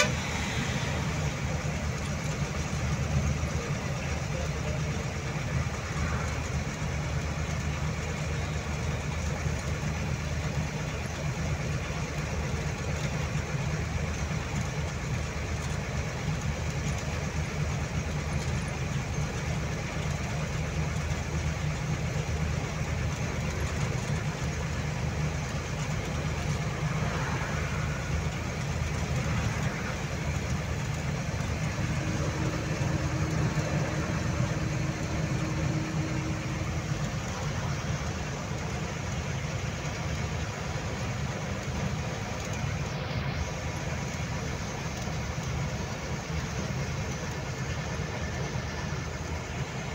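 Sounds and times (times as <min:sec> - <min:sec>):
truck diesel engine running: 0:00.0 - 0:49.9
tyre and road noise: 0:00.0 - 0:49.9.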